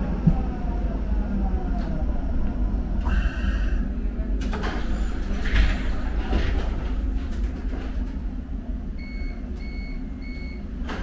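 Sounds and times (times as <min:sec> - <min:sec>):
steady low rumble: 0:00.0 - 0:10.9.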